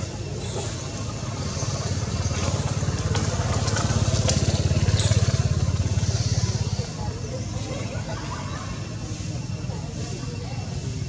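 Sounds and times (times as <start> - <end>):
engine pulsing rumble: 0.0 - 11.0.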